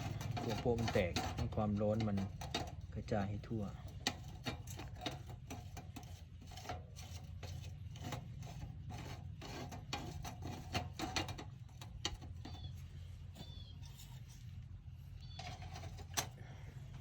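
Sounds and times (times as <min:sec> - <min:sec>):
objects rubbing and scraping: 0:00.0 - 0:17.0.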